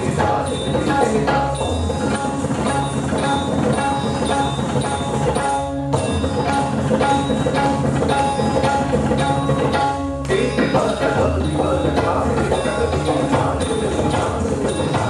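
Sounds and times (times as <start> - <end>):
hand drum: 0.0 - 15.0
melodic instruments playing: 0.0 - 15.0.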